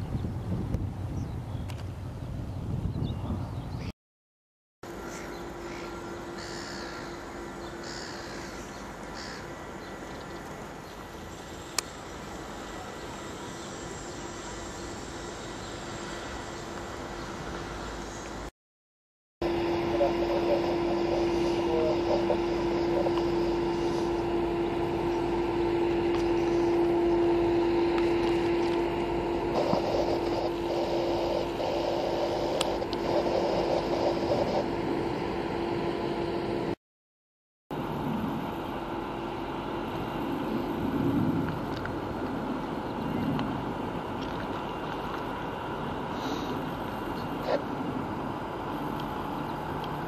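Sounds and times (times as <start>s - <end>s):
boat engine droning: 4.8s - 18.5s, 19.4s - 36.8s, 37.7s - 50.0s.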